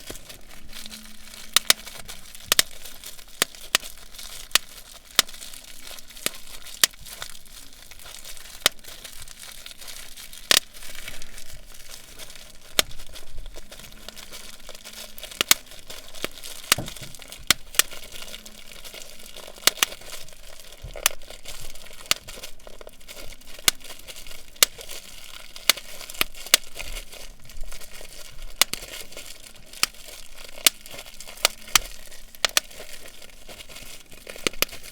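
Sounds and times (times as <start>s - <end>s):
bubble wrap popping: 0.0s - 34.9s
plastic crinkling: 0.0s - 34.9s.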